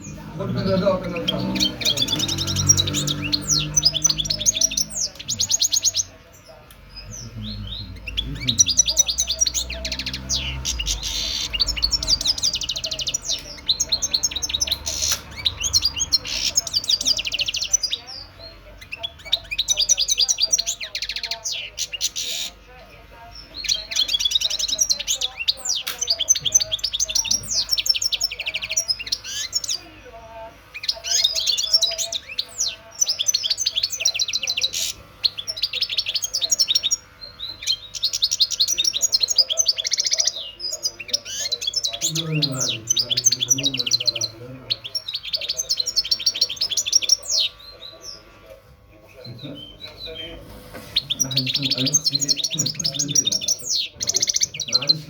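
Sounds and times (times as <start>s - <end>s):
finch twittering song: 0.0s - 22.6s, 23.2s - 55.0s.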